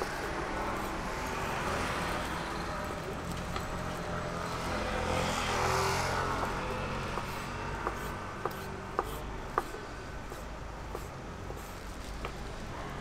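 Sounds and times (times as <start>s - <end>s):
road vehicle passing: 0.0s - 10.6s.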